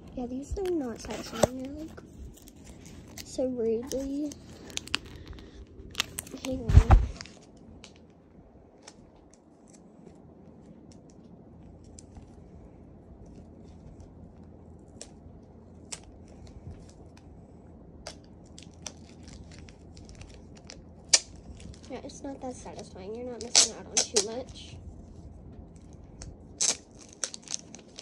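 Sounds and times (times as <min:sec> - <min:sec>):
plastic film peeling crinkling: 0:00.1 - 0:08.2, 0:08.8 - 0:12.6, 0:13.2 - 0:17.3, 0:18.0 - 0:28.0.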